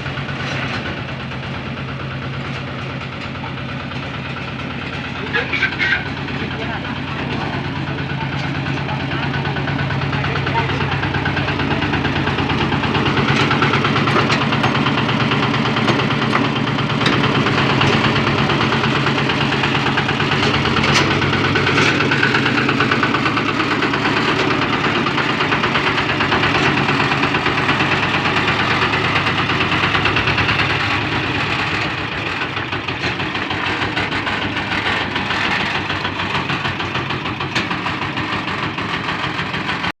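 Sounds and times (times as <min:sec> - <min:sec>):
engine running with rapid pulse: 0:00.0 - 0:39.9.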